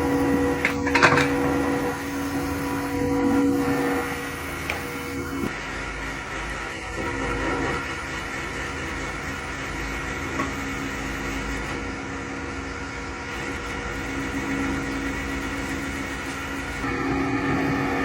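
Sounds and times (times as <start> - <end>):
power tool humming: 0.0 - 18.0.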